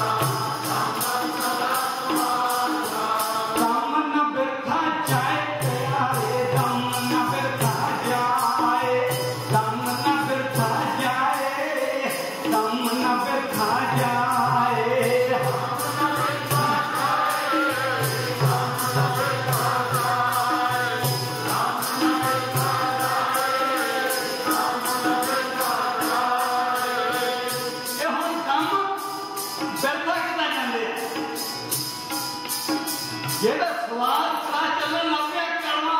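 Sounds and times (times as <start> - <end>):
steady rhythmic beat: 0.0 - 3.9, 5.1 - 34.3
man singing a hymn: 0.0 - 29.0.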